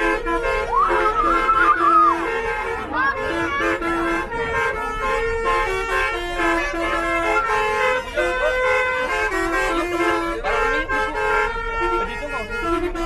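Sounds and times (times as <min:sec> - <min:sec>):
bus horn playing a tune: 0:00.0 - 0:13.0.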